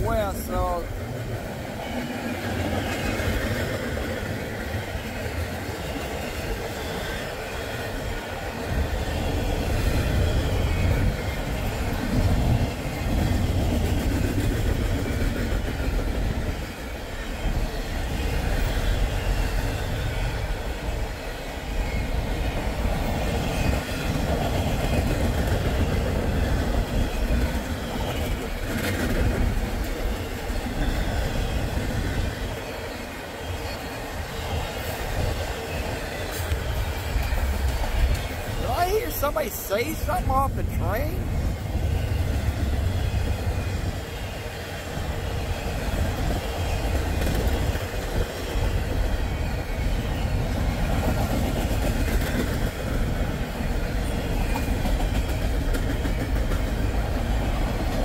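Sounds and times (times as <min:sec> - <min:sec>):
steel wheels rumbling on rail: 0:00.0 - 0:58.0
train cars clattering: 0:00.0 - 0:58.0.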